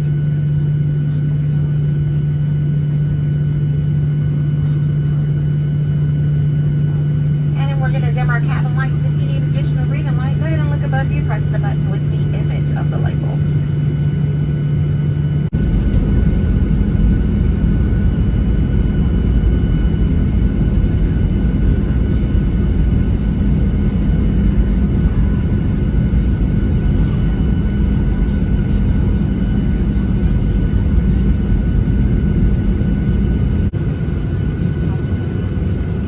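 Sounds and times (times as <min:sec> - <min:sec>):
jet engine rumble in cabin: 0:00.0 - 0:36.0.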